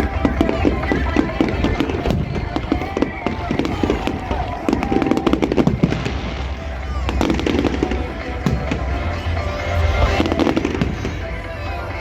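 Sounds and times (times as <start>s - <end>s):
fireworks crackling and banging: 0.0s - 12.0s
music playing: 0.0s - 12.0s.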